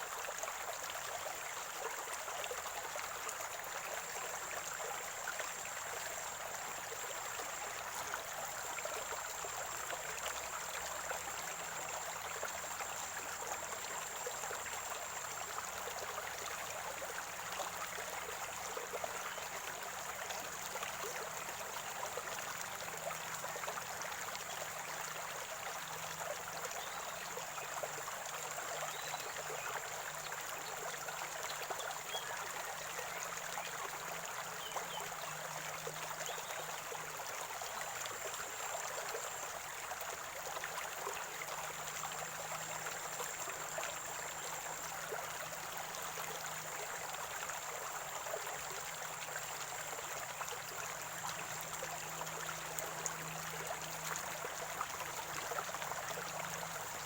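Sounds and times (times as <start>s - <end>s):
spring water gurgling over stones: 0.0s - 57.0s.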